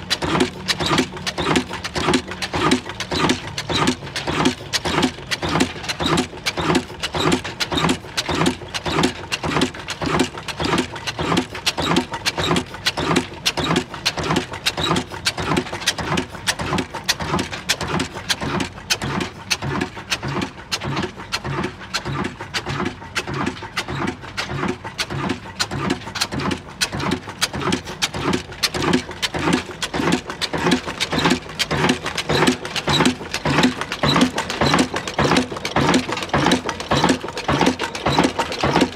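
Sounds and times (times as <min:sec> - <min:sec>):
diesel engine rhythmic beat: 0:00.0 - 0:38.9.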